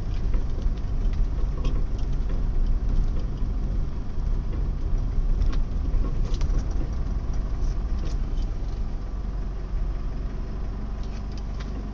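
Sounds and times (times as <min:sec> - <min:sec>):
pickup engine rumble: 0:00.0 - 0:11.9.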